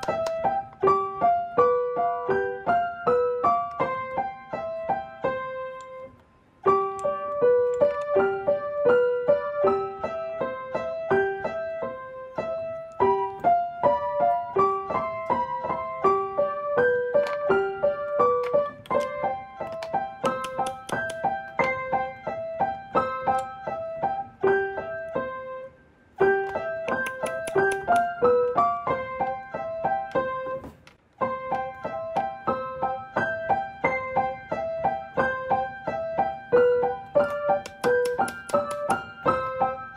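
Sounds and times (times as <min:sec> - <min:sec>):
light piano tune: 0:00.0 - 0:39.9.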